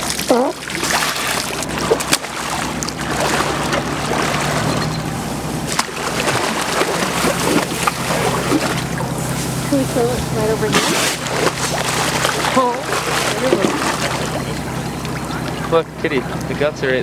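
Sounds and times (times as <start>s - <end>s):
water sloshing and splashing: 0.0s - 16.4s
boat engine idling: 0.0s - 17.0s.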